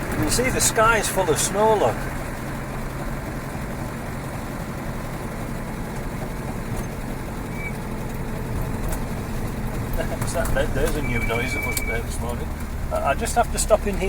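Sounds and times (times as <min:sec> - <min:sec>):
engine and drivetrain drone: 0:00.0 - 0:14.0
road noise: 0:00.0 - 0:14.0.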